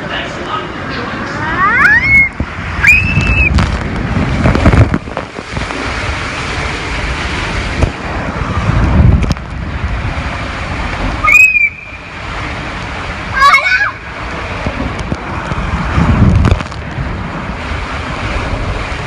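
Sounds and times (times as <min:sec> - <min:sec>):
wind and water rushing: 0:00.0 - 0:19.0.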